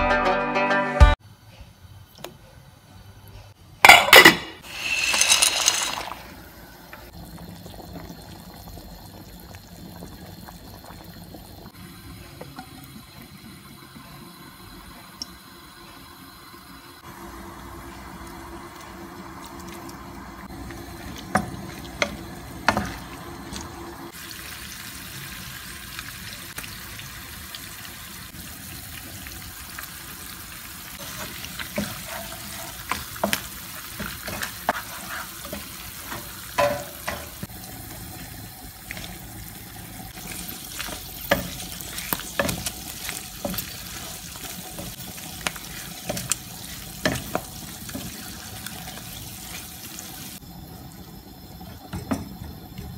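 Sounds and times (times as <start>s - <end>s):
fish sizzling in a pan: 4.6s - 52.6s.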